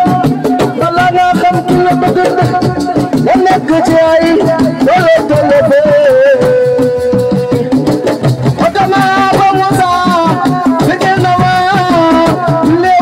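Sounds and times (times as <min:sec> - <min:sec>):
drums and percussion beat: 0:00.0 - 0:13.0.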